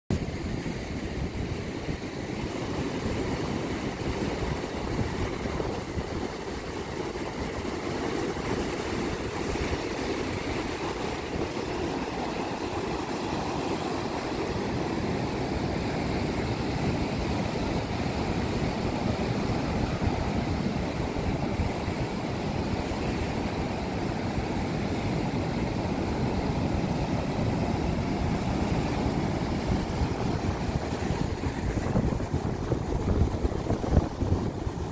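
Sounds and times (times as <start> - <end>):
surf breaking over rocks: 0.1 - 34.9.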